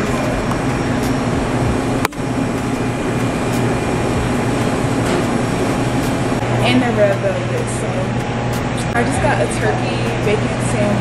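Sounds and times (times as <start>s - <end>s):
fans and ventilation humming: 0.0s - 11.0s.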